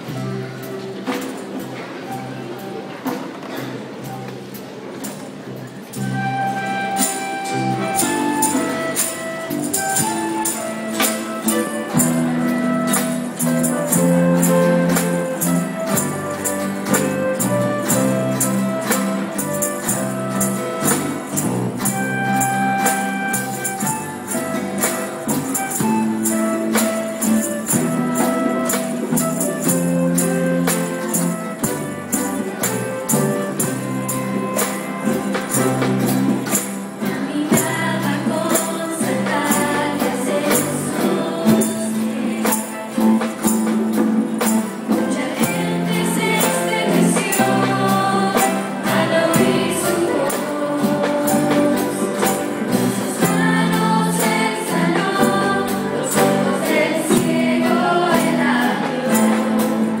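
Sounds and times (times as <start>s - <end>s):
flute melody: 0.0s - 3.3s, 5.8s - 60.0s
strummed guitars: 0.0s - 60.0s
jingling tambourine beat: 5.0s - 60.0s.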